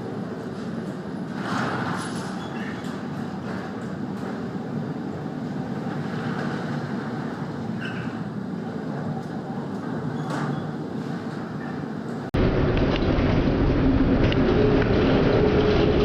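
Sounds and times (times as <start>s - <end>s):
ship rumble in heavy seas: 0.0s - 16.0s.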